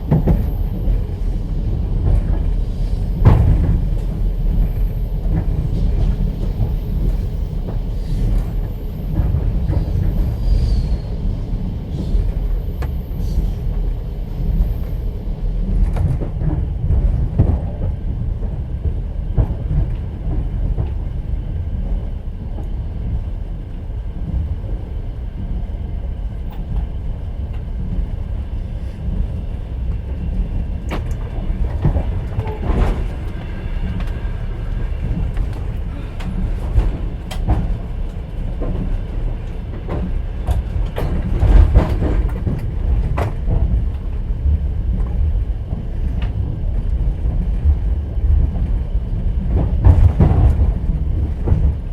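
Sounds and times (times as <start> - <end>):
train running gear rumble: 0.0 - 51.9.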